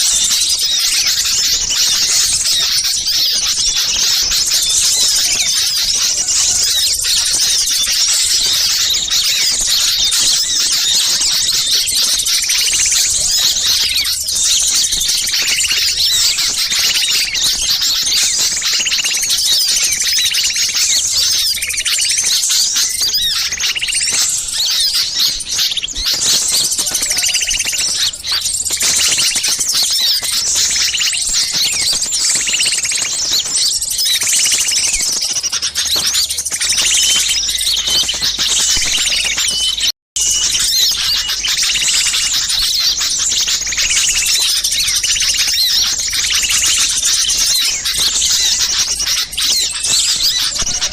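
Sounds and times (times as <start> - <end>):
lower repeated bird call: 0.0 - 50.9
songbirds chattering chorus: 0.0 - 50.9.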